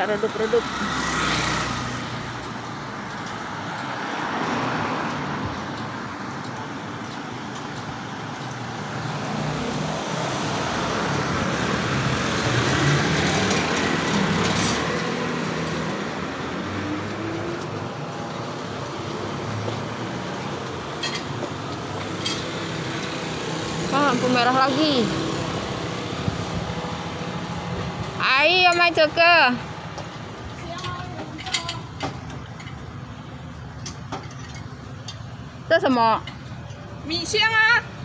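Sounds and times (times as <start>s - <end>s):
small truck passing: 0.0s - 30.5s
vehicles driving past: 0.0s - 38.0s.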